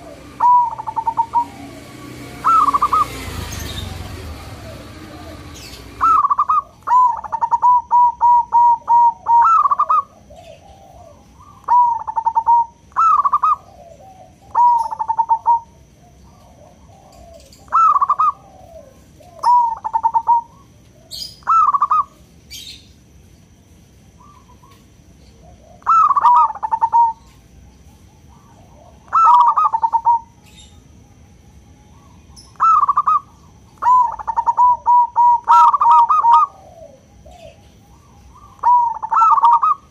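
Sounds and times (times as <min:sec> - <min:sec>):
dove cooing: 0:00.0 - 0:22.7, 0:24.2 - 0:30.7, 0:31.9 - 0:39.9.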